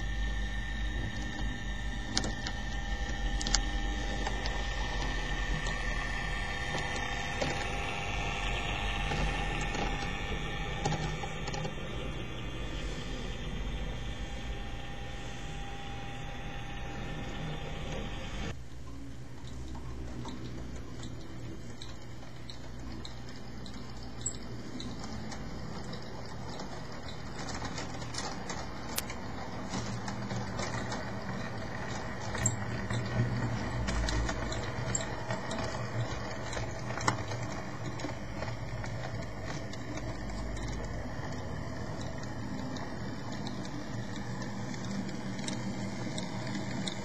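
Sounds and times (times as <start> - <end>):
model train motor hum: 0.0 - 18.6, 20.4 - 47.0
wheels clicking on track: 0.0 - 18.6, 19.3 - 47.0.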